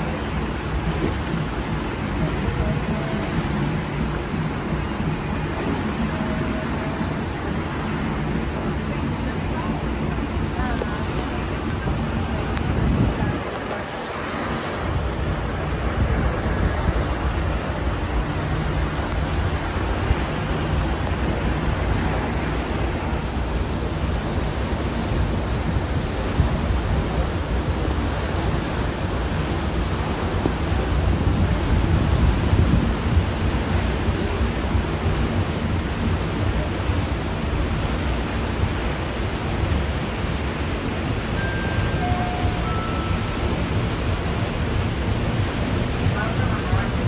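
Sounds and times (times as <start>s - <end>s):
wind and water rushing: 0.0s - 47.0s.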